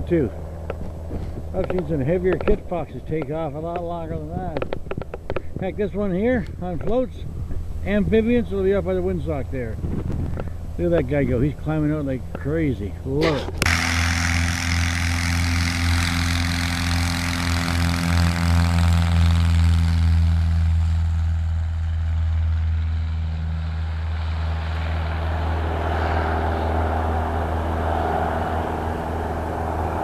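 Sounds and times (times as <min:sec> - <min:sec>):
higher engine tone: 0:00.0 - 0:30.0
light aircraft engine droning: 0:00.0 - 0:30.0.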